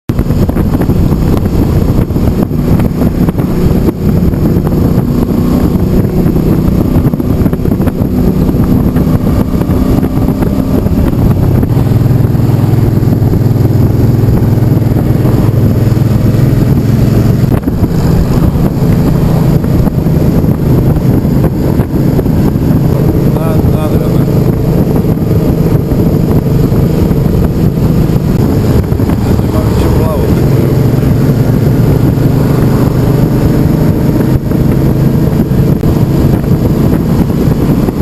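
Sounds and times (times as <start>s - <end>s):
motorcycle engine running: 0.1s - 38.0s
wind rushing over microphone: 0.1s - 38.0s.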